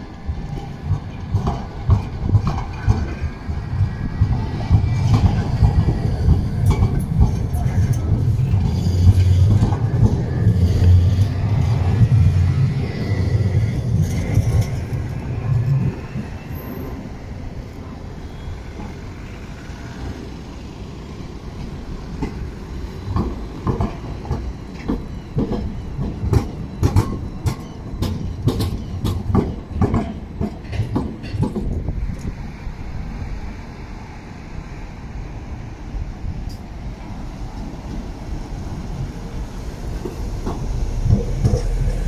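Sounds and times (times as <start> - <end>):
tram passing with low rumble: 0.0 - 42.0
tram wheels clattering over rail joints: 0.0 - 42.0.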